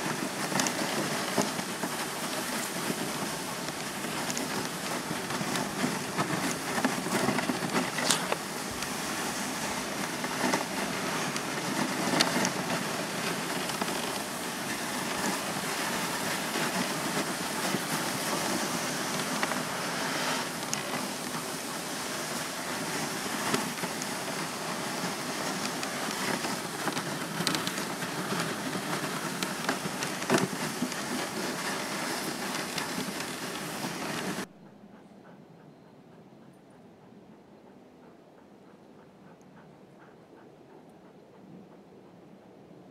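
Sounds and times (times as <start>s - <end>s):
sled runners gliding over snow: 0.0s - 41.8s.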